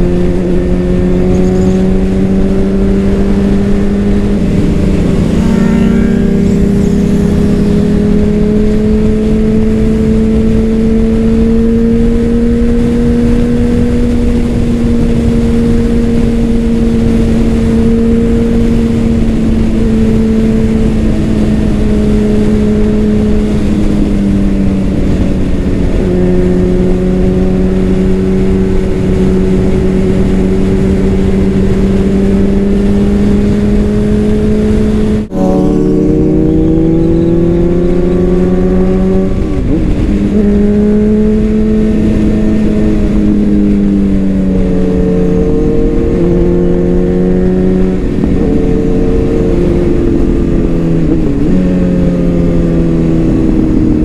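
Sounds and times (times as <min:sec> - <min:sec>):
motorcycle engine cruising: 0:00.0 - 0:54.0
wind rush: 0:00.0 - 0:54.0.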